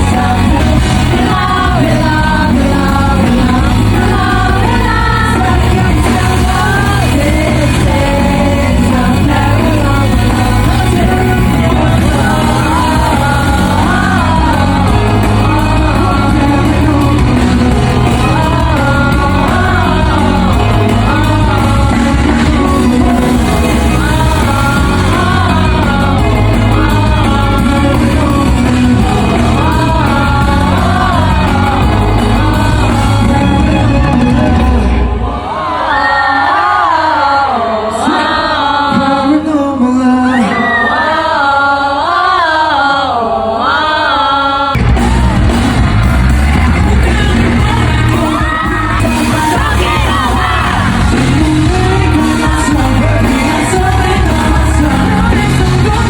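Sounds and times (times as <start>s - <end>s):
heavy bass and drums: 0.0s - 35.2s, 44.8s - 56.0s
live pop music with singing: 0.0s - 56.0s.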